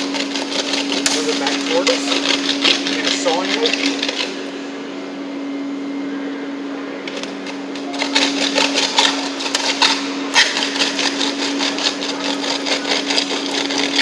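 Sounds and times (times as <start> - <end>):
metal plate scraping concrete: 0.0 - 4.5, 7.1 - 14.0
steady hum: 0.0 - 14.0.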